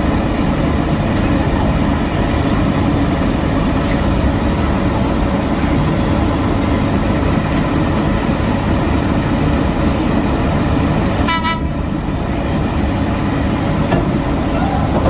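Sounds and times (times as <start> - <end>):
heavy machinery diesel rumble: 0.0 - 15.0.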